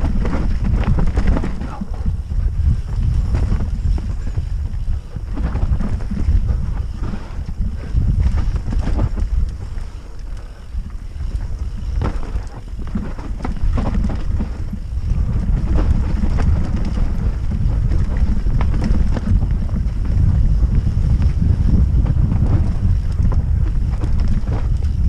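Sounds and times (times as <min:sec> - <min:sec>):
bike rattling over ground: 0:00.0 - 0:25.0
wind buffeting microphone: 0:00.0 - 0:25.0.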